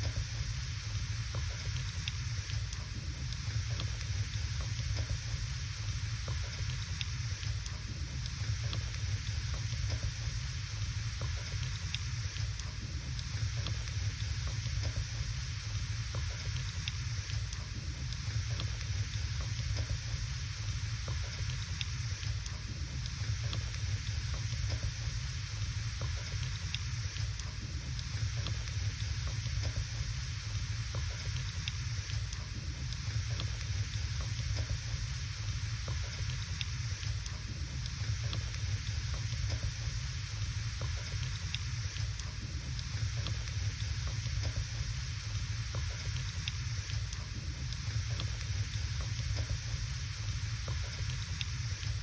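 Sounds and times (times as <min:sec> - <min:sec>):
fire crackles and pops: 0:00.0 - 0:52.0
fire rumbling and hissing: 0:00.0 - 0:52.0.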